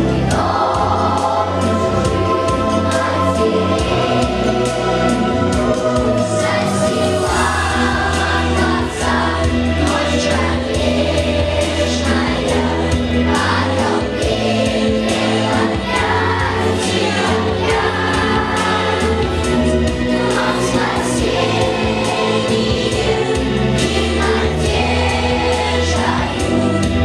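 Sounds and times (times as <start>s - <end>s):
choir singing: 0.0s - 27.0s
sustained instrumental chords: 0.0s - 27.0s.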